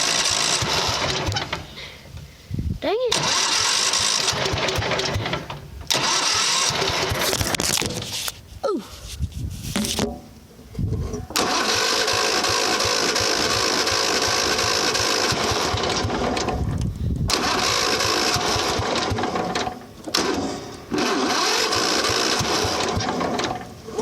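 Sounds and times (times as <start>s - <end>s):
engine cranking by starter: 0.0s - 2.2s, 3.1s - 8.4s, 10.9s - 24.0s.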